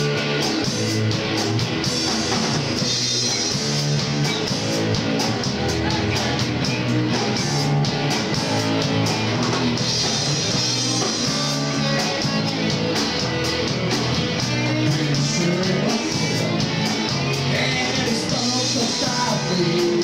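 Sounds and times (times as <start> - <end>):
drum kit beat: 0.0 - 20.0
electric guitars: 0.0 - 20.0.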